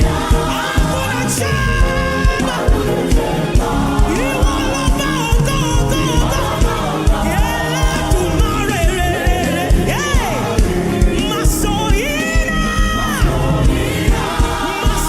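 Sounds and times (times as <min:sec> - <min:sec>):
choir singing: 0:00.0 - 0:15.0
gospel band with drum beat: 0:00.0 - 0:15.0.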